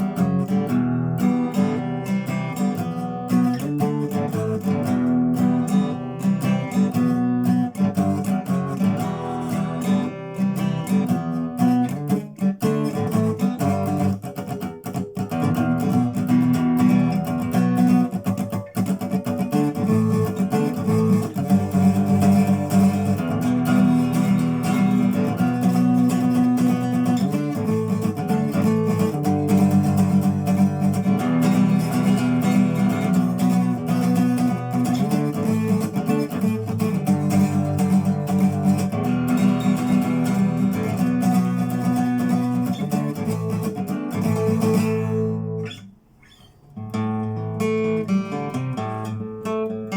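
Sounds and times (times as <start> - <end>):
acoustic guitar strummed: 0.0 - 49.9.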